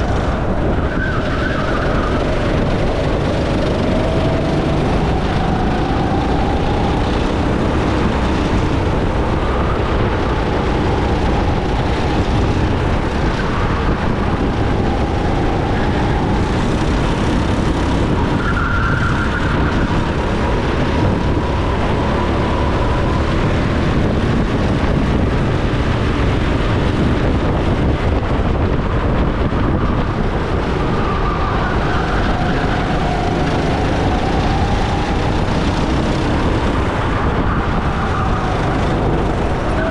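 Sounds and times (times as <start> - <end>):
go-kart engine whining: 0.0 - 39.9
wind and road noise: 0.0 - 39.9.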